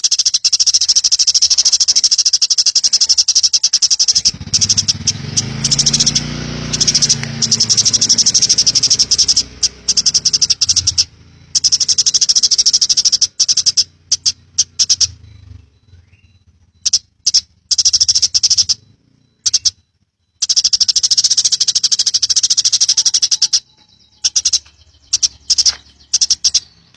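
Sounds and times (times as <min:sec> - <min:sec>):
sparrow chirping: 0:00.0 - 0:26.9.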